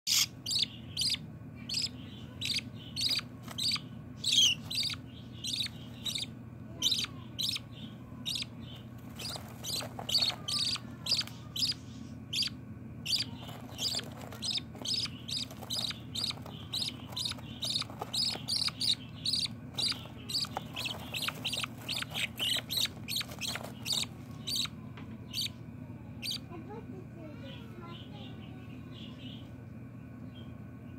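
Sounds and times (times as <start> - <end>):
budgerigar chicks cheeping: 0.1 - 25.6, 26.2 - 26.5.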